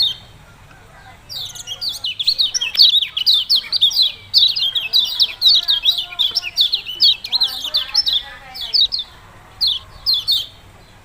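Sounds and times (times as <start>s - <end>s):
bird chirping rapidly: 0.0s - 11.0s.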